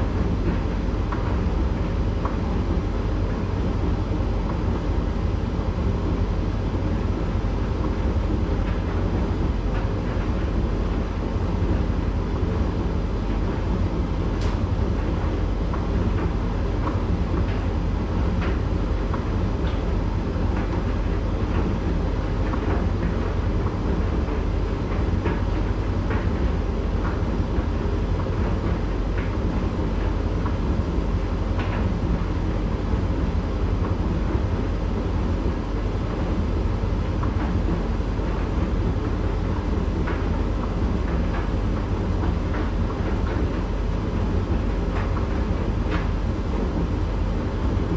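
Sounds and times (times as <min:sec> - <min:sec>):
tumble dryer drum rumbling: 0:00.0 - 0:47.9.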